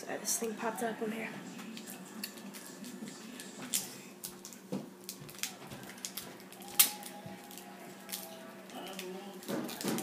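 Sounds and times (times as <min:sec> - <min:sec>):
tape clicks and rustles: 0:01.6 - 0:10.0.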